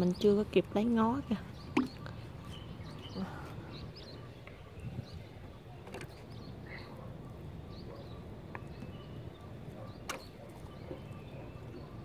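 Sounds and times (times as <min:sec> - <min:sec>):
low steady background noise: 0:00.0 - 0:12.0
small birds chirping: 0:00.0 - 0:12.0.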